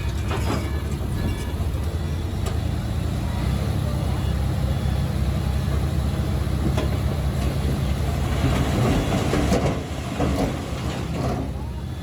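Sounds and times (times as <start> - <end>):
diesel engine of heavy machinery: 0.0 - 12.0.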